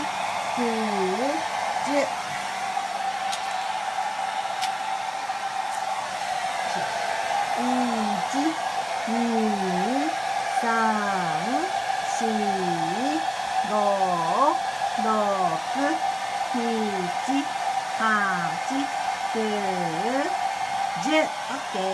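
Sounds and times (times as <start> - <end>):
hair dryer running: 0.0 - 21.9.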